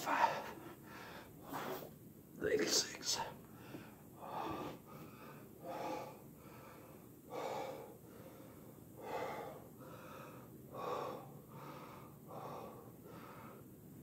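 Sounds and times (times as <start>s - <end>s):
man breathing hard: 0.0s - 1.9s, 3.5s - 14.0s.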